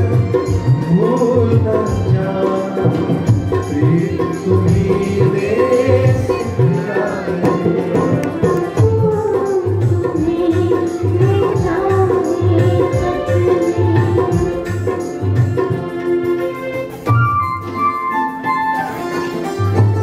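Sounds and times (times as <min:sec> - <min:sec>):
tabla rhythm: 0:00.0 - 0:20.0.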